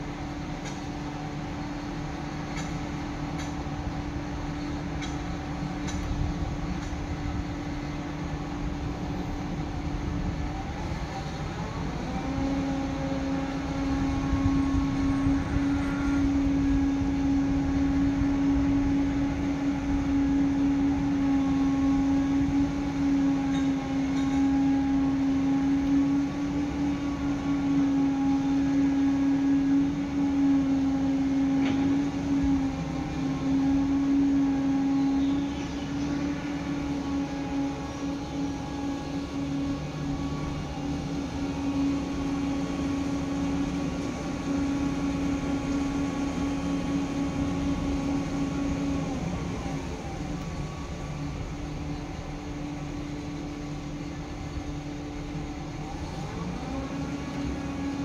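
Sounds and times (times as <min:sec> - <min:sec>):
heavy diesel machinery droning: 0:00.0 - 0:58.0.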